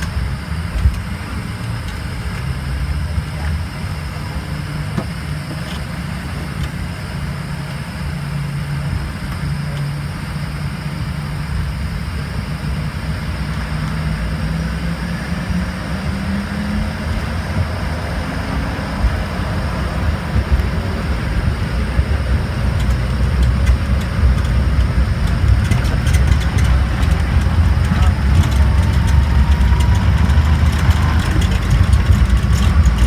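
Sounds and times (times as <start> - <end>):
jet engine cabin rumble: 0.0 - 33.0.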